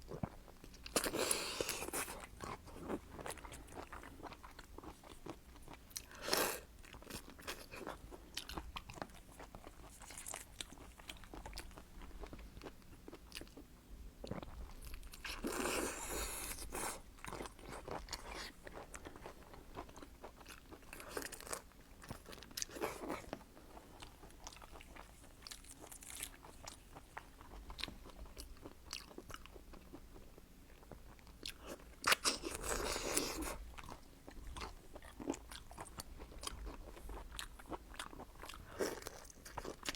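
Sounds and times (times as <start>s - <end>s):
close-miked chewing and crunching: 0.0s - 39.9s.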